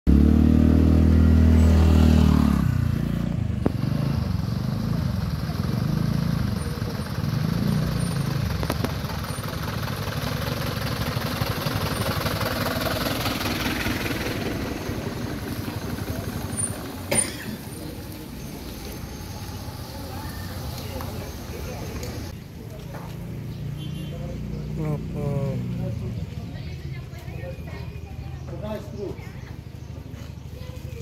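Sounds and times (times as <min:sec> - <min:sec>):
motorcycle engines idling: 0:00.1 - 0:31.0
car engines idling: 0:03.2 - 0:31.0.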